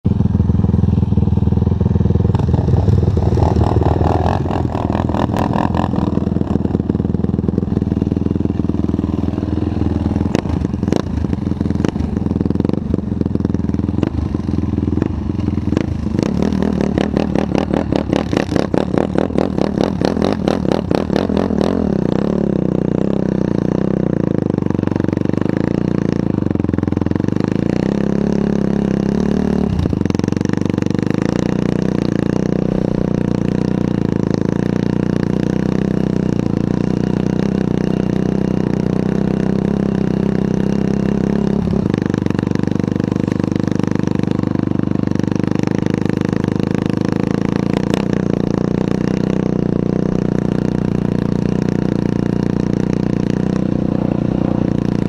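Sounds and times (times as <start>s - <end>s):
quad engine idling: 0.0s - 55.0s.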